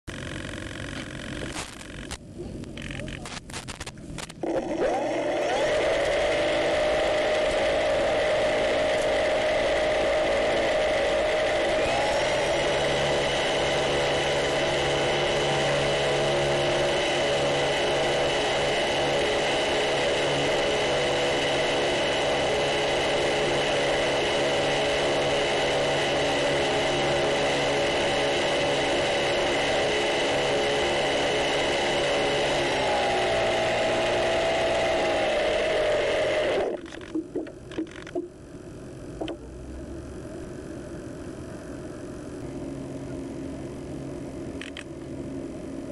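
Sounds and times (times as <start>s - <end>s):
electric motor and propeller whine: 0.1s - 45.9s.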